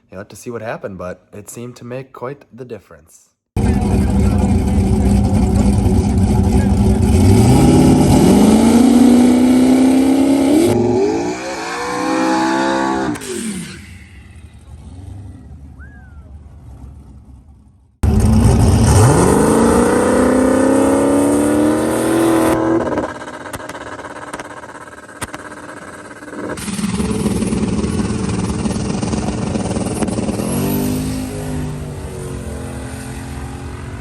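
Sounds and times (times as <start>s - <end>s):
drag car engine accelerating: 3.6s - 34.0s.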